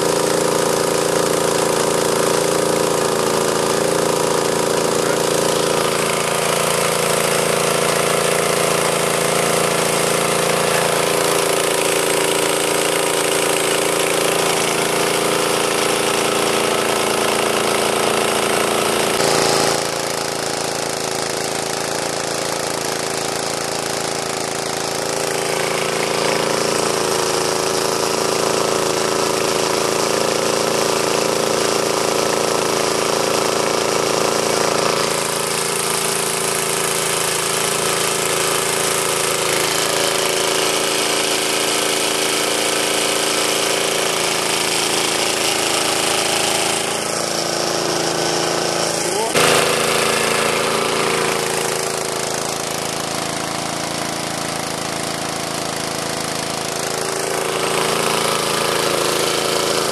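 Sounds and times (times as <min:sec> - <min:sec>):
air compressor running: 0:00.0 - 0:59.9
compressor jolt: 0:00.0 - 0:59.9.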